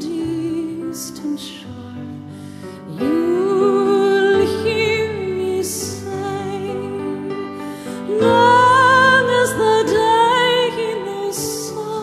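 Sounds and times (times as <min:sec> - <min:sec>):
slow gentle melody with vibrato: 0:00.0 - 0:12.0.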